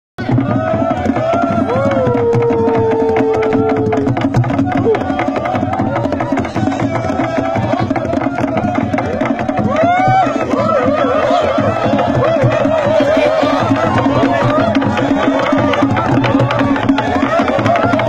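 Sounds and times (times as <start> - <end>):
drums beating fast rhythm: 0.2 - 18.0
many voices singing and calling: 0.2 - 18.0.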